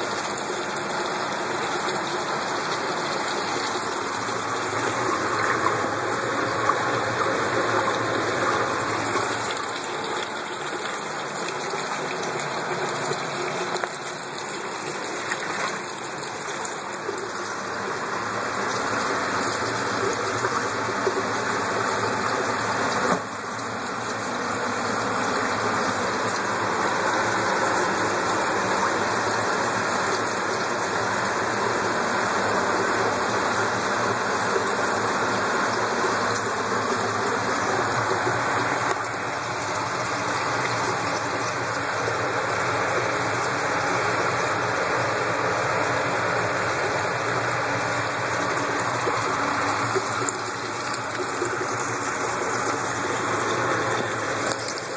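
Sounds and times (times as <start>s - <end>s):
water pouring from hose: 0.0s - 54.9s.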